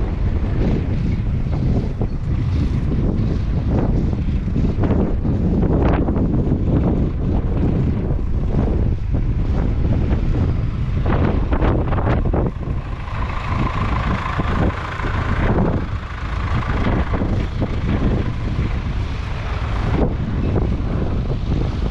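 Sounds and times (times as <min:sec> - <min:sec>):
combine harvester diesel engine: 0:00.0 - 0:21.9
steady whine: 0:00.0 - 0:21.9
wind buffeting microphone: 0:00.0 - 0:21.9.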